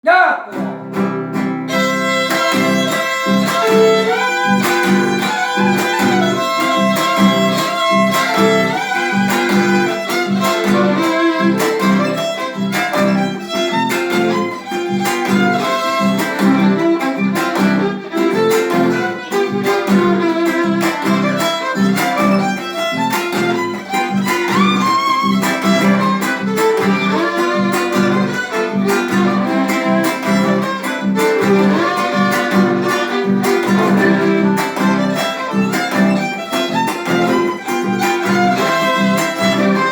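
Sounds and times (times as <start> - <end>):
acoustic guitar strumming: 0.1 - 39.9
bowed violin melody: 0.9 - 39.9.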